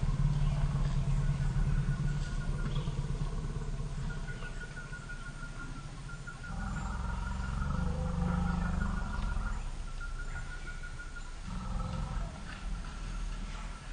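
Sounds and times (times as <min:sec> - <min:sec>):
elephants rumbling deeply: 0:00.0 - 0:13.9.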